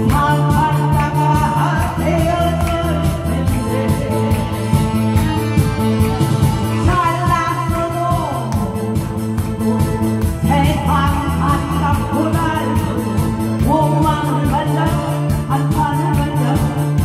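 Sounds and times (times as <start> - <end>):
woman singing into a microphone: 0.0 - 5.2, 6.7 - 17.0
backing track with steady beat: 0.0 - 17.0.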